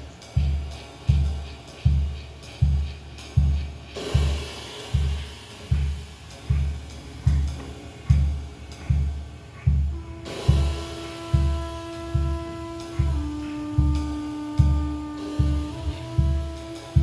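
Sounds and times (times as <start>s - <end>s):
background music: 0.0s - 17.0s
cymbals: 0.0s - 17.0s
deep kick drum: 0.0s - 17.0s.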